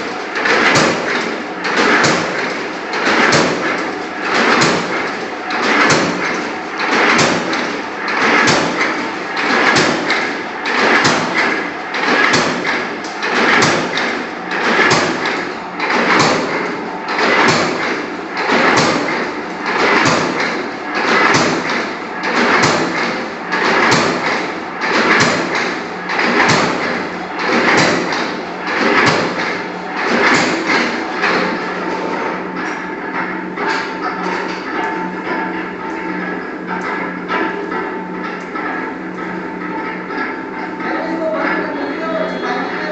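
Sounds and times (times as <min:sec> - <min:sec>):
heavy clanking punch strokes: 0:00.0 - 0:42.9
power press humming: 0:00.0 - 0:42.9.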